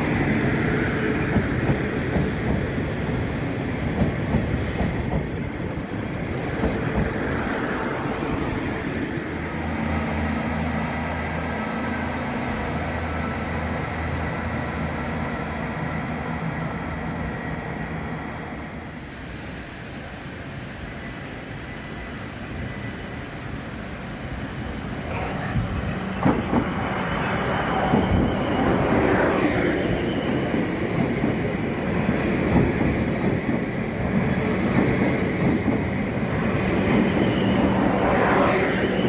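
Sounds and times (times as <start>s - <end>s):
train running through station: 0.0s - 39.0s.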